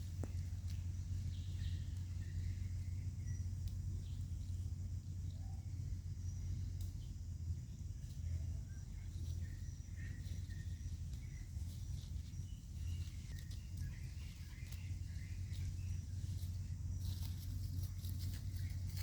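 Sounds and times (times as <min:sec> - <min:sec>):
high chirping calls: 0:00.0 - 0:19.0
steady low hum: 0:00.0 - 0:19.0.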